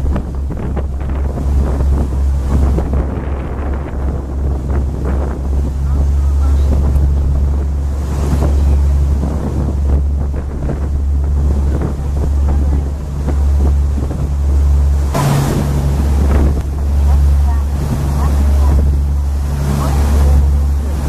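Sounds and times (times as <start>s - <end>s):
boat engine droning: 0.0s - 21.0s
water rushing past hull: 0.0s - 21.0s
wind buffeting microphone: 0.0s - 21.0s.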